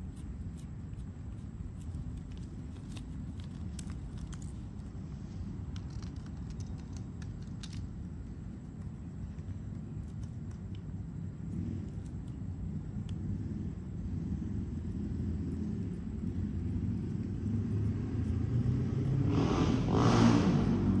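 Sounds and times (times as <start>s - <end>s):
cat licking and eating: 0.0s - 7.4s, 8.2s - 19.9s
steady low rumble: 0.0s - 21.0s.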